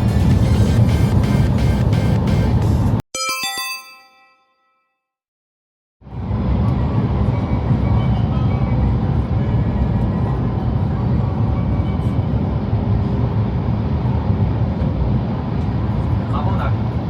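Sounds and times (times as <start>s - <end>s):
train rumble inside passenger car: 0.0s - 3.0s, 6.1s - 17.0s.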